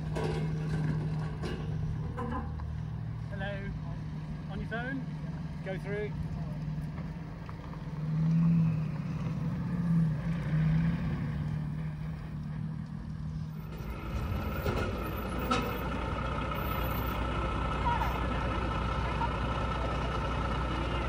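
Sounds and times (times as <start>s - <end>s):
lorry diesel engine running: 0.0s - 21.0s.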